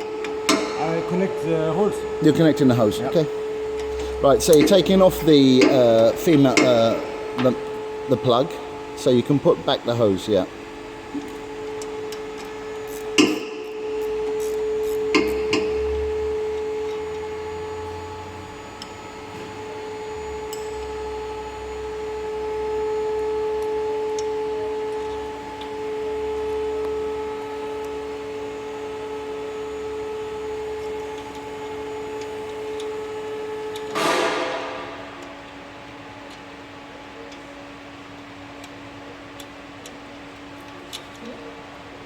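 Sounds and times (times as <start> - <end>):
electric motor hum: 0.0 - 36.2.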